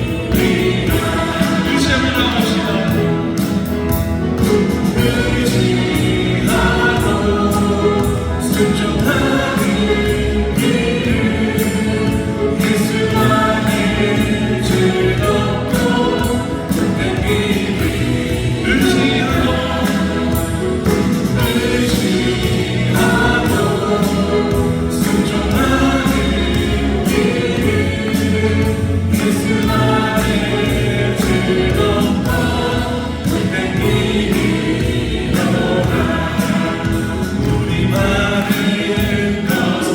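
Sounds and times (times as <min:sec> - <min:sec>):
gospel choir with instruments: 0:00.0 - 0:39.9.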